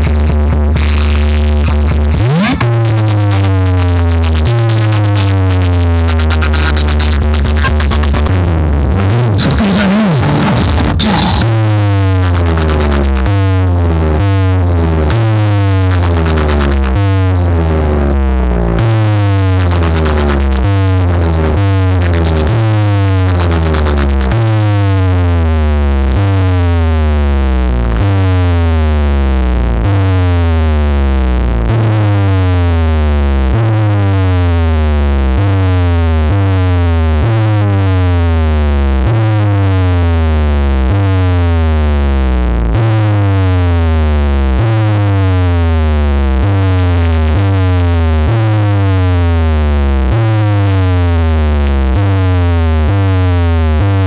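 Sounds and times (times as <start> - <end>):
deep electronic bass line: 0.0 - 54.0.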